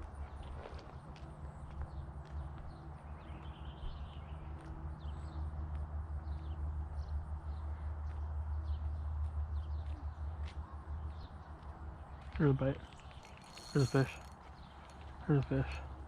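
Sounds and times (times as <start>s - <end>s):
small birds chirping: 0.2s - 5.5s, 6.2s - 16.0s.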